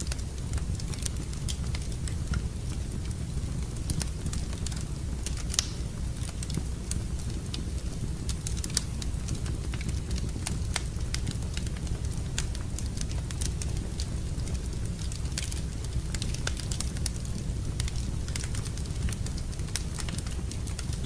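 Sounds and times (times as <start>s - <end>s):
low rumble of fire: 0.0s - 21.0s
wood fire crackling: 0.0s - 21.0s.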